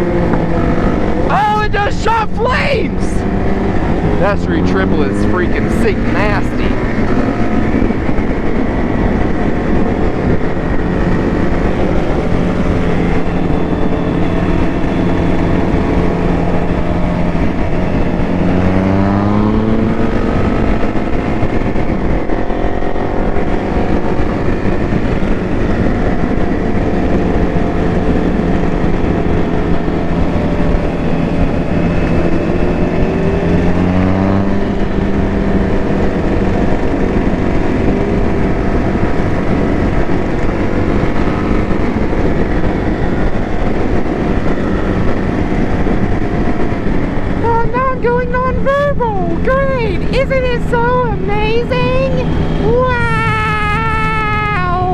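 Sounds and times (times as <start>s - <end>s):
motorcycle engine running: 0.0s - 54.9s
wind rush: 0.0s - 54.9s.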